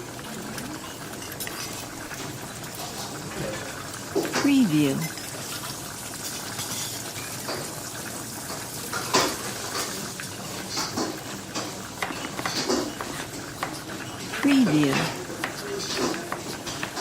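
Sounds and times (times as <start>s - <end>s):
hiss of cooking: 0.0s - 17.0s
cutlery and dishes clinking: 0.2s - 7.8s, 8.4s - 17.0s.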